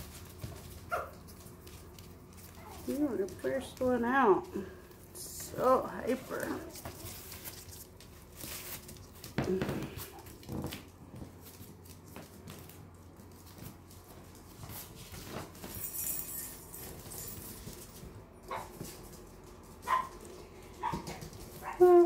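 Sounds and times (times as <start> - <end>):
puppies scuffling: 0.0 - 22.0.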